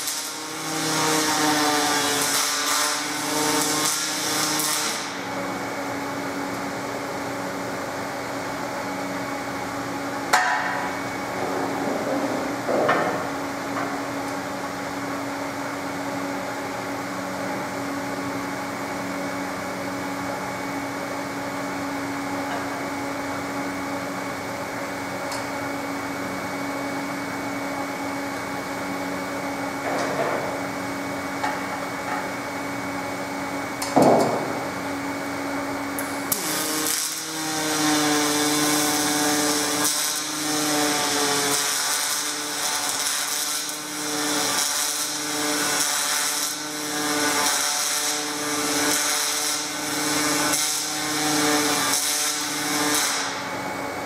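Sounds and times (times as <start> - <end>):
welding arc buzzing and crackling: 0.0 - 54.0
machine hum: 0.1 - 54.0.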